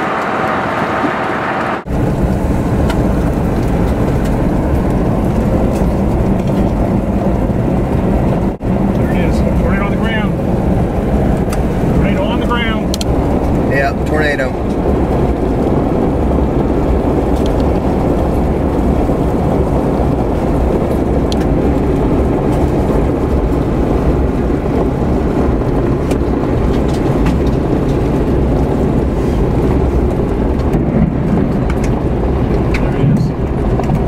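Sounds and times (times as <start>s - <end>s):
vehicle road and engine rumble: 0.0s - 34.0s.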